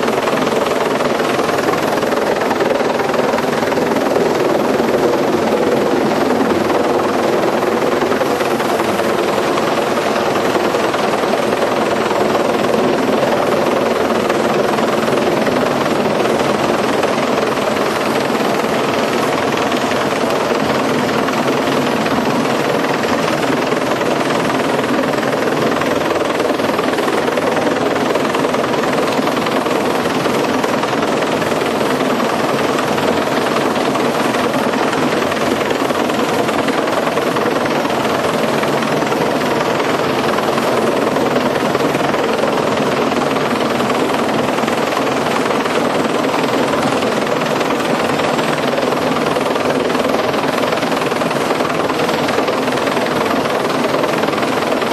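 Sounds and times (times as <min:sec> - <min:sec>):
helicopter engine and rotor: 0:00.0 - 0:54.9.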